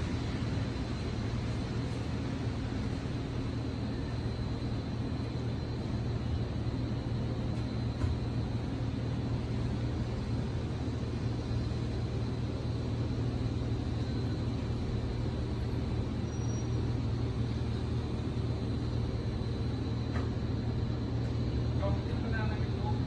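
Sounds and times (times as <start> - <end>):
faint high whine: 0.0 - 23.0
steady low hum: 0.0 - 23.0.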